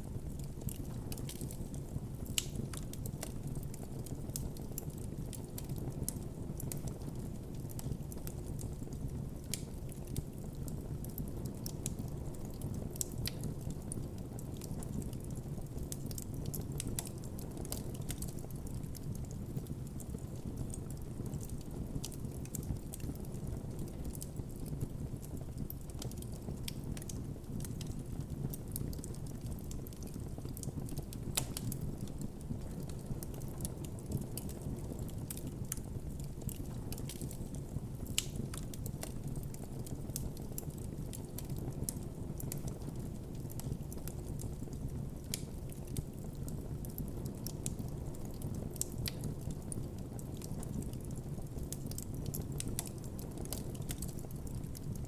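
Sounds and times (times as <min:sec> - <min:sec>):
campfire burning and crackling: 0:00.0 - 0:55.0.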